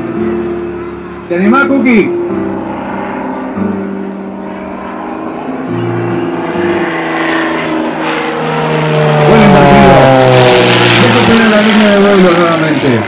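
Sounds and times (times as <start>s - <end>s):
propeller plane engine: 0.0s - 13.0s.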